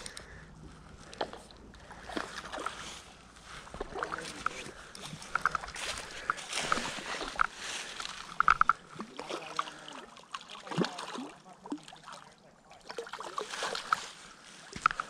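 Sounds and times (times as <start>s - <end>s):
fish splashing: 1.1s - 15.0s.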